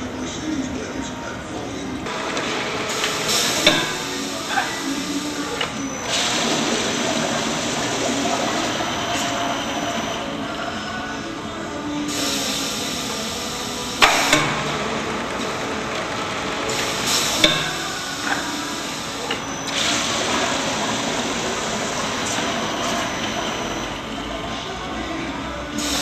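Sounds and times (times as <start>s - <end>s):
glass bottles clanking: 2.1s - 11.1s, 12.1s - 24.8s
liquid hissing through filler nozzles: 2.1s - 26.0s.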